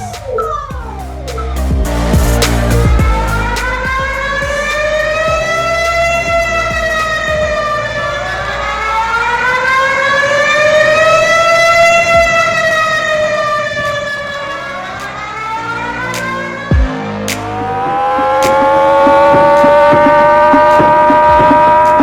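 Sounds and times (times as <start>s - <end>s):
emergency siren wailing: 1.6s - 22.0s.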